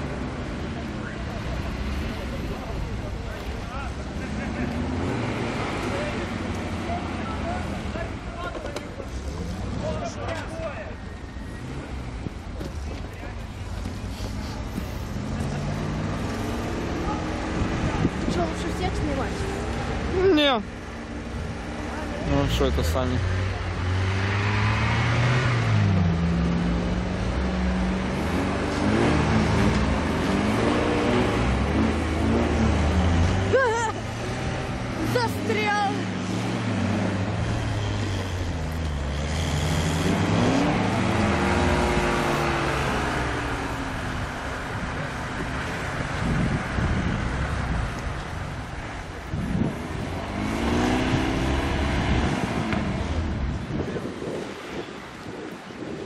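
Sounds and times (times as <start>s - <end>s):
off-road vehicle engines idling: 0.0s - 56.0s
truck engine driving through snow: 0.0s - 56.0s.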